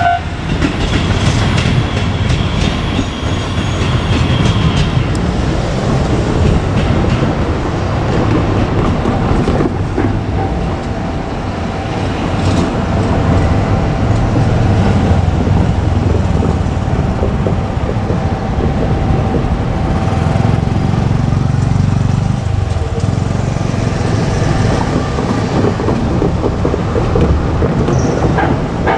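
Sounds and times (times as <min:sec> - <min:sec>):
diesel railcar rumble: 0:00.0 - 0:28.9.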